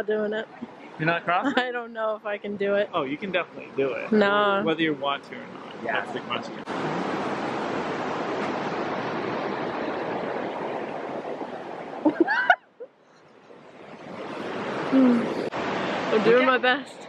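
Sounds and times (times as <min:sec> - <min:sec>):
river water flowing: 0:02.6 - 0:17.0.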